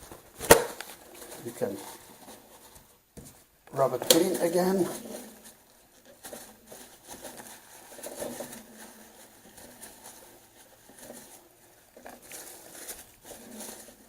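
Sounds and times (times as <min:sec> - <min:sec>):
kitchen paper rustling: 0:00.0 - 0:14.0.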